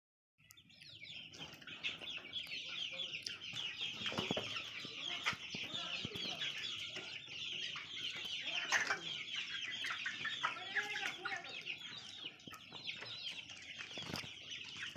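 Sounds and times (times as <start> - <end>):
chickens clucking: 0.4 - 14.9
chicks chirping: 0.4 - 14.9.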